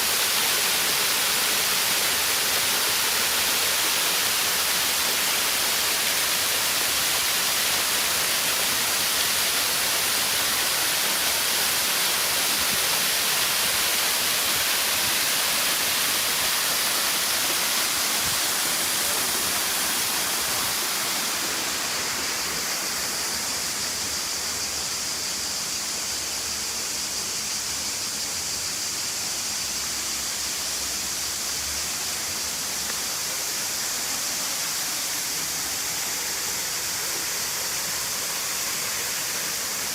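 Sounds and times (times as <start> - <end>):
waterfall rushing: 0.0 - 25.8, 28.4 - 39.9.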